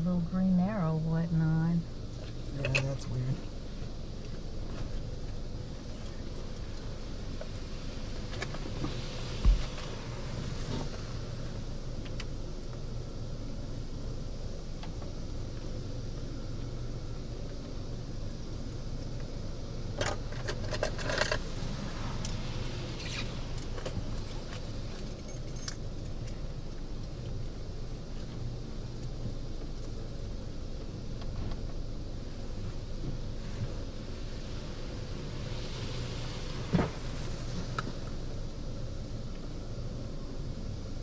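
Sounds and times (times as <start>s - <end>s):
car idling: 0.0s - 41.0s.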